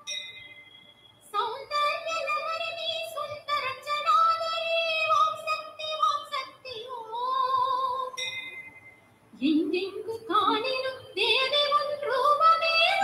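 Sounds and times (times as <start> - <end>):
devotional song high voice singing: 1.3 - 8.2, 9.4 - 13.0.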